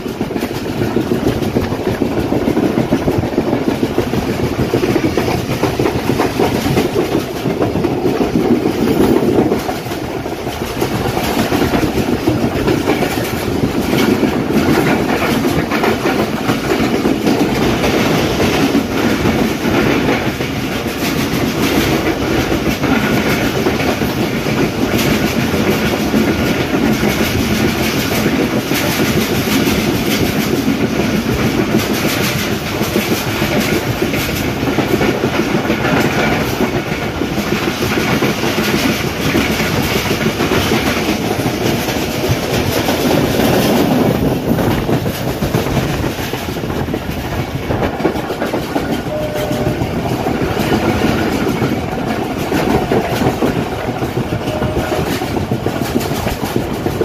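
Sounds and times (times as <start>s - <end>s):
train running rumble: 0.0s - 57.0s
wheels clacking over rail joints: 0.0s - 57.0s.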